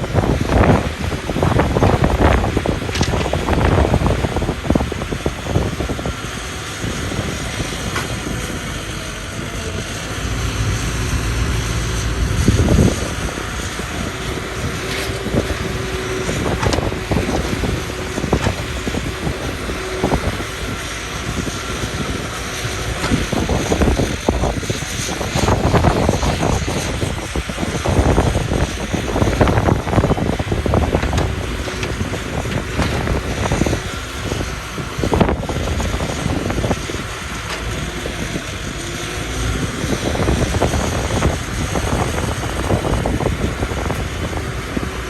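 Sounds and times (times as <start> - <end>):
excavator engine running: 0.0 - 45.0
wind buffeting microphone: 0.0 - 45.0.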